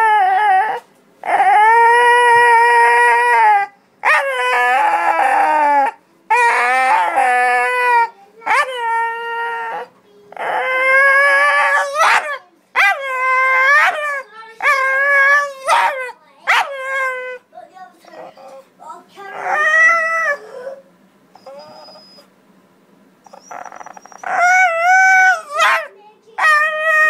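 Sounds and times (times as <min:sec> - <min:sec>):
dog howling: 0:00.0 - 0:17.4, 0:19.2 - 0:20.8, 0:23.3 - 0:27.0.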